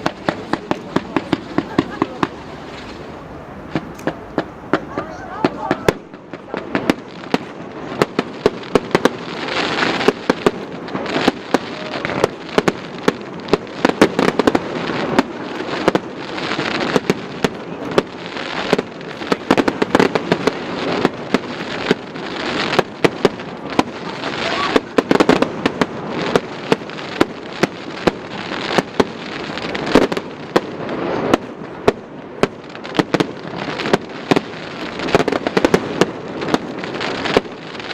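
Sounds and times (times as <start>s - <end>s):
fireworks bangs: 0.0s - 37.9s
fireworks crackling: 0.0s - 37.9s.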